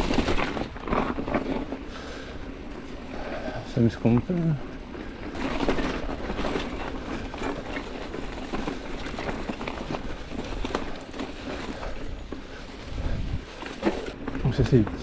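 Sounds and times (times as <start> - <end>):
bike rattling: 0.0 - 15.0
bike tyres rolling: 0.0 - 15.0
leaves and twigs crackling: 0.0 - 15.0.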